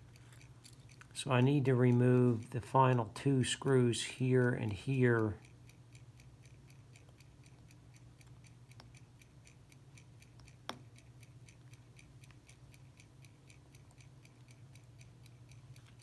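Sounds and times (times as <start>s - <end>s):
mechanical watch ticking: 0.0s - 16.0s.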